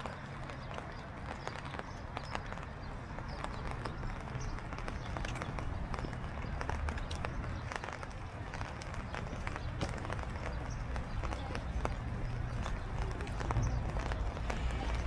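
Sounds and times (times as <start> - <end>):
footsteps on wet pavement: 0.0 - 15.0
steady low rumble: 2.7 - 15.0.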